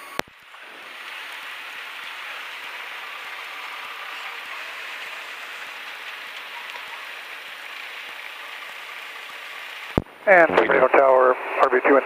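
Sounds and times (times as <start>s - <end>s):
airplane cockpit noise: 0.0s - 12.0s.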